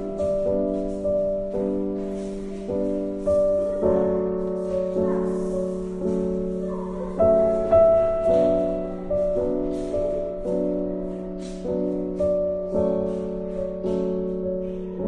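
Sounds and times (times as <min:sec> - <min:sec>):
gentle piano chords: 0:00.0 - 0:15.0
soft brush percussion: 0:00.0 - 0:15.0.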